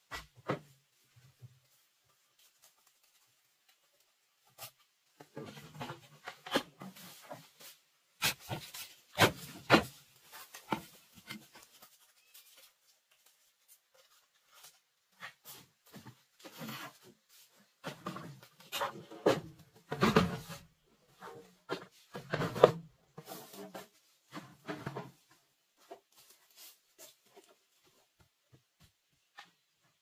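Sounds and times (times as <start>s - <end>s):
rustling and rubbing: 0.0s - 29.9s.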